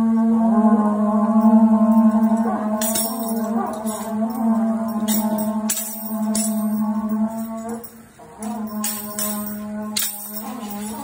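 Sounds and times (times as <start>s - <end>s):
conch-shell trumpets blowing: 0.5s - 11.0s
metallic jingles: 1.4s - 11.0s.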